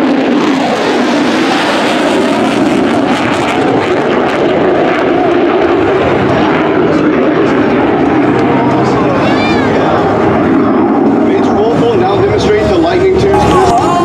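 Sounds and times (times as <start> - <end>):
jet engine roar: 0.0 - 14.0.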